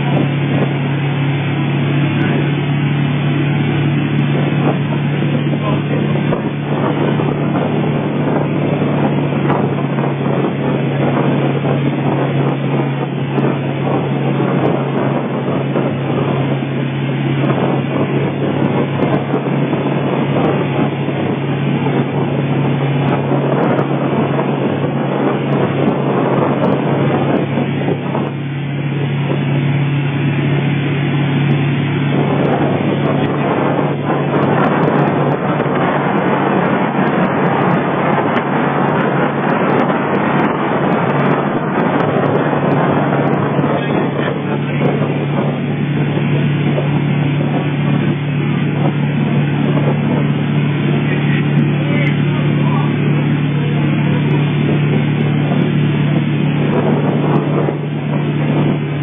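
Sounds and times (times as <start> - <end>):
boat engine droning: 0.0 - 59.0
rush of boat wake: 0.0 - 59.0
wind buffeting microphone: 0.0 - 59.0.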